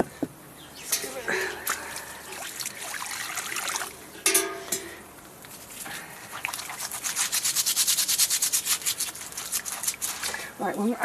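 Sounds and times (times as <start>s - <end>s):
brush scrubbing a bird bath: 0.8s - 4.4s, 5.5s - 11.0s.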